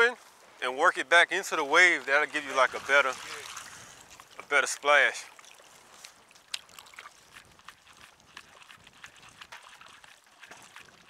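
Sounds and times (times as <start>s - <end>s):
water lapping on rocks: 1.4s - 11.0s.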